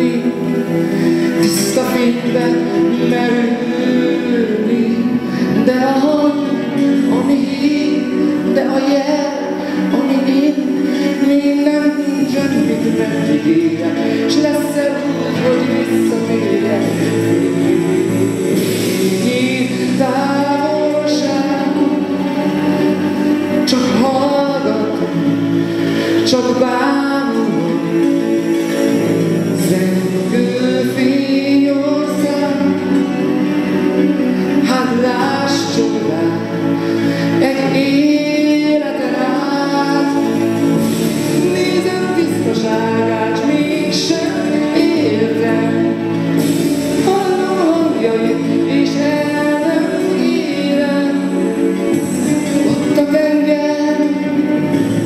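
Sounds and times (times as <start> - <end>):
man singing into microphone: 0.0 - 55.0
musical accompaniment: 0.0 - 55.0.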